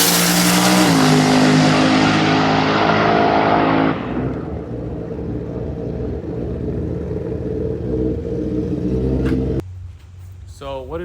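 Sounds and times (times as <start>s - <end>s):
car engine at high revs: 0.0s - 9.6s
engine low rumble: 0.0s - 11.0s.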